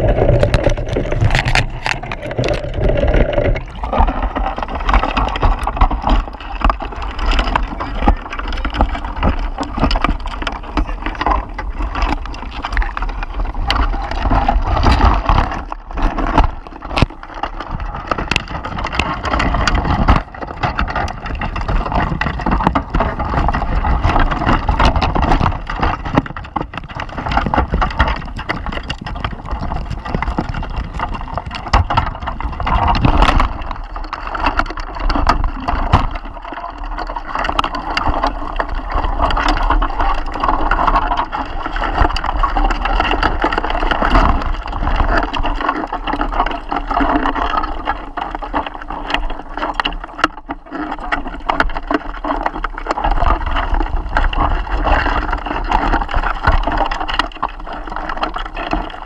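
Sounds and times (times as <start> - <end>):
crabs clicking and scraping: 0.0 - 59.0.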